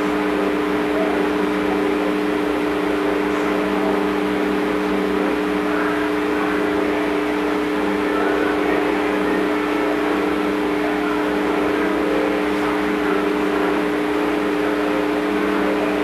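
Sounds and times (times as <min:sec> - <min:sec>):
droning hum: 0:00.0 - 0:16.0.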